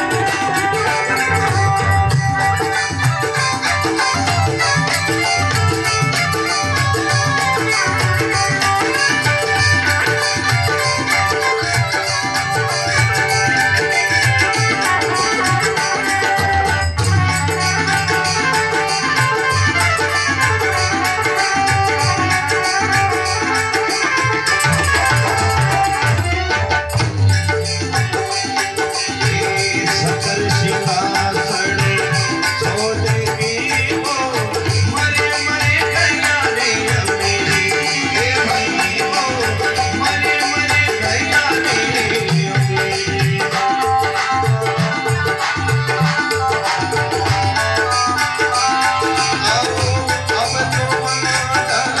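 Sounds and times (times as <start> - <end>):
hand drum rhythm: 0.0 - 52.0
held melody line: 0.0 - 52.0.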